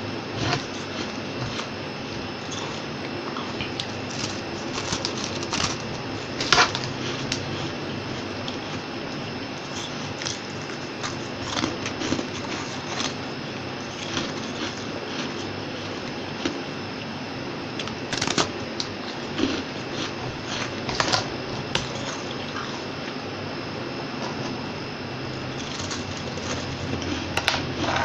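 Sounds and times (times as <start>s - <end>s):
chewing crunchy frost: 0.3s - 16.8s, 17.8s - 23.2s, 25.3s - 28.0s.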